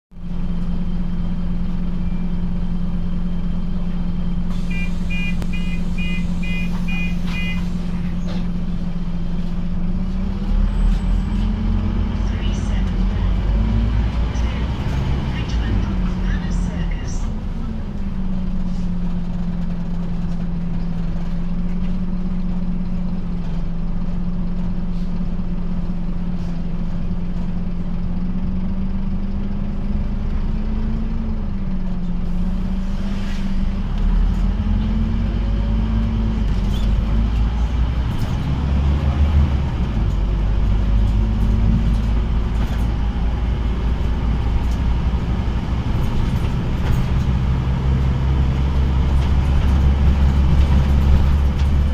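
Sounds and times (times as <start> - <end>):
bus diesel engine: 0.1 - 51.9.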